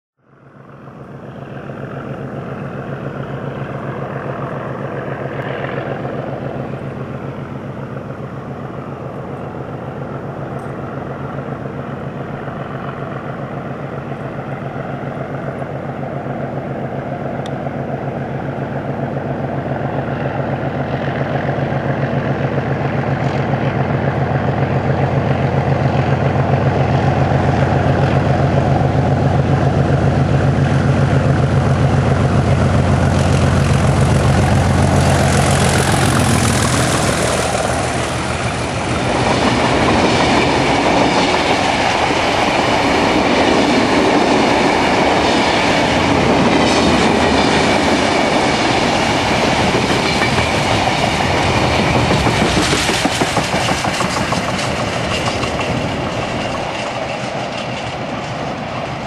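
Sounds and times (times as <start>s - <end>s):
diesel locomotive engine drone: 0.2s - 59.0s.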